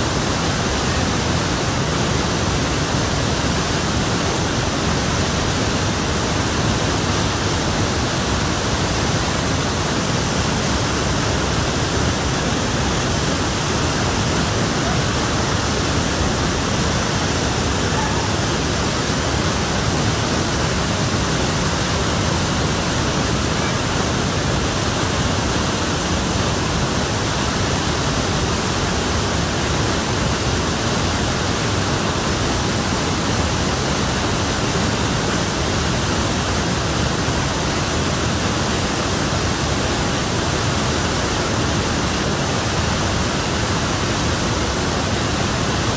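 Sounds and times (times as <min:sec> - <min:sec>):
waterfall and river rushing: 0:00.0 - 0:45.9.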